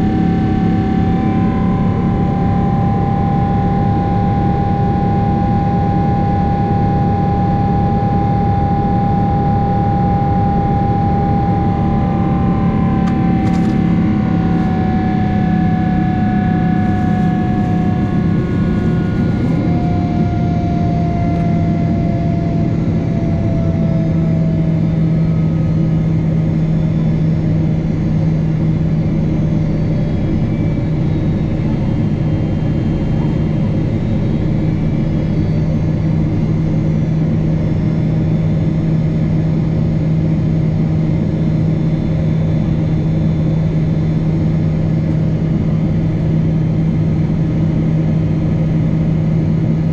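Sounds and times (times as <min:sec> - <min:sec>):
airliner cabin jet engine drone: 0:00.0 - 0:49.9.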